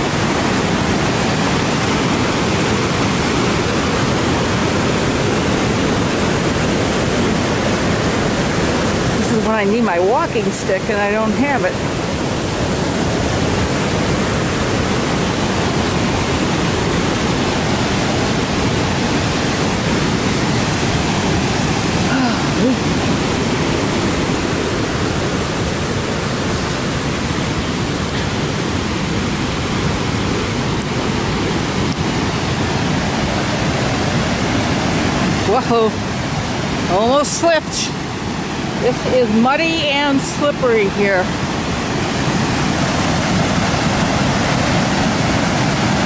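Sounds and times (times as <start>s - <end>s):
river rushing: 0.0s - 46.0s.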